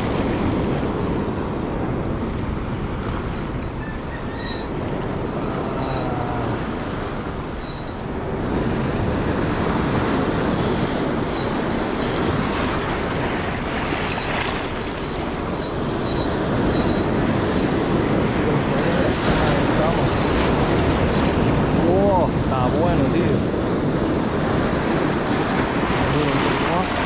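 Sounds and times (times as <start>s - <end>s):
surf washing over rocks: 0.0s - 27.0s.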